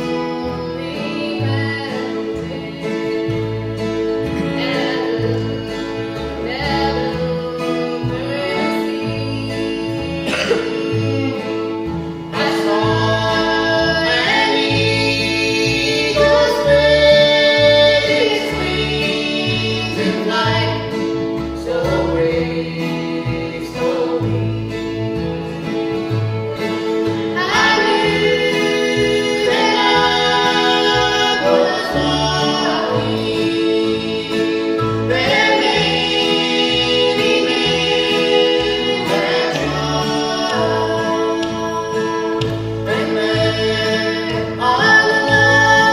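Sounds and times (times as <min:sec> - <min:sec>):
man and woman singing: 0:00.0 - 0:25.2, 0:27.4 - 0:45.9
acoustic string band playing: 0:00.0 - 0:45.9.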